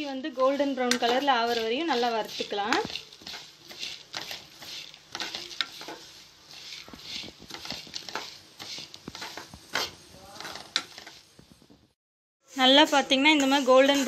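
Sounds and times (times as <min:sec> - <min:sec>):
metal spoon scraping a steel pan: 0:00.0 - 0:11.3, 0:12.6 - 0:14.0.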